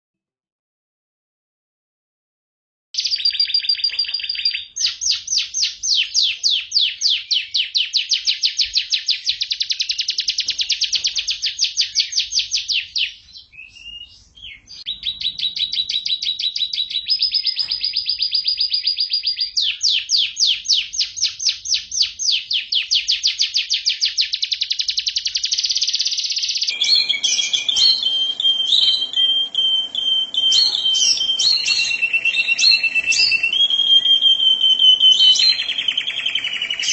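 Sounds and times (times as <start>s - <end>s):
background noise: 3.0s - 36.9s
canary singing trills: 3.0s - 36.9s.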